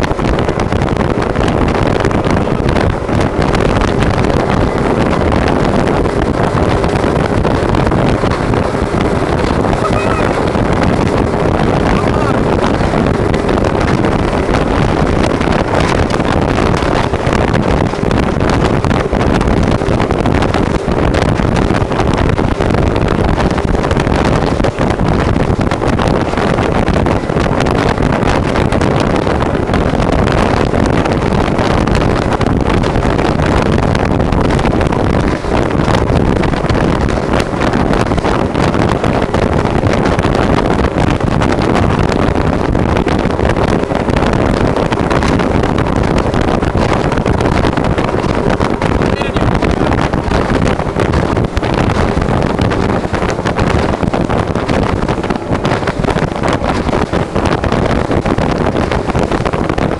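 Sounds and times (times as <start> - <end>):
motorboat running at speed: 0.0 - 59.9.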